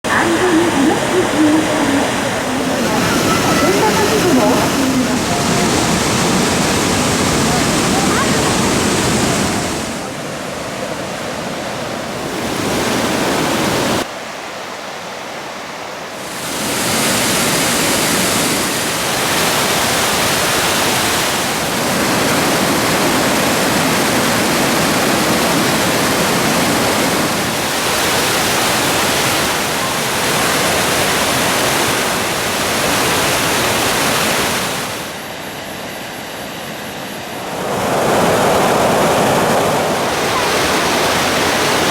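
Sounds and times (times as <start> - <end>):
waterfall rushing: 0.0 - 14.3, 15.6 - 35.2, 37.2 - 41.9.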